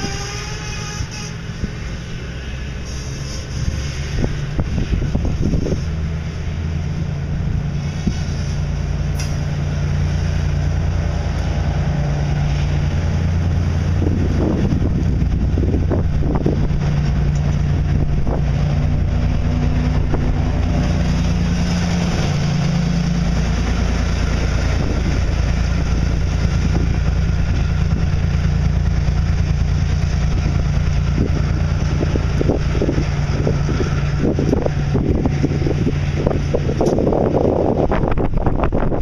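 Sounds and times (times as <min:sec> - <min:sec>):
diesel locomotive engine running: 0:00.0 - 0:39.0
steel wheels rumbling on rail: 0:00.0 - 0:39.0.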